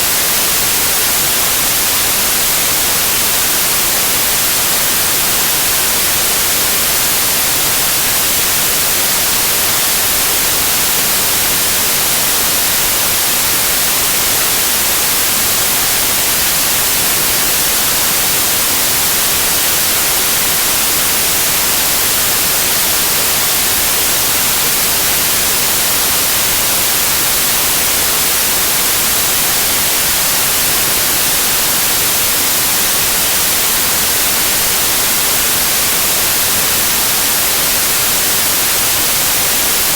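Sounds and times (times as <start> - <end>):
tv static white noise: 0.0 - 39.9.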